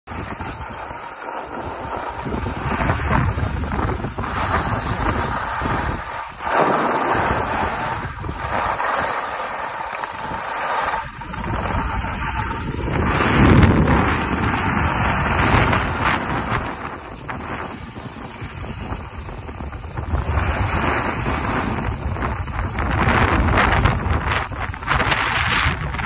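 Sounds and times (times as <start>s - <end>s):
skis hissing on snow: 0.1s - 26.0s
wind buffeting microphone: 0.1s - 26.0s.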